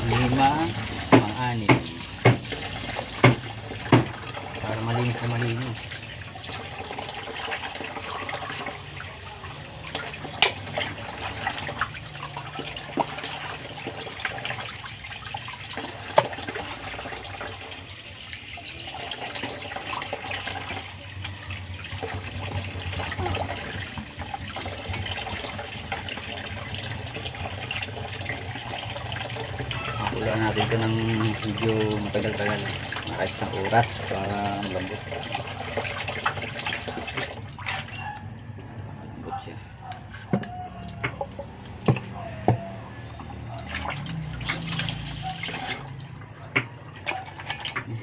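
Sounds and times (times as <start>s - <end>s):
tap water running into basin: 0.0s - 38.8s, 39.9s - 48.0s.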